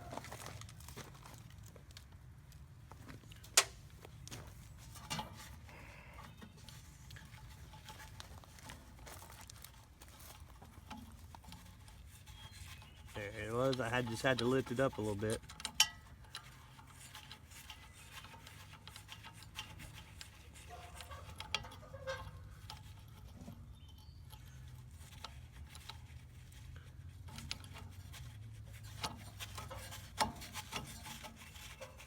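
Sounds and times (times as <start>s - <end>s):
metal clicks and scraping: 3.3s - 32.0s.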